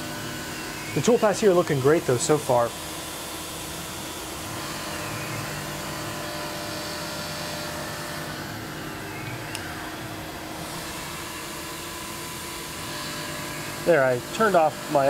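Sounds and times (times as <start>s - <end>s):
milling machine whirring: 0.0s - 15.0s.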